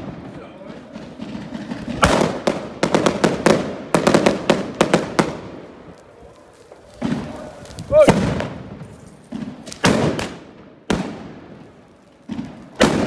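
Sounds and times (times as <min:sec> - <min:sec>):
loud firecracker bang: 0:00.0 - 0:05.5, 0:07.0 - 0:11.5, 0:12.3 - 0:13.0
firecrackers cracking: 0:00.0 - 0:13.0.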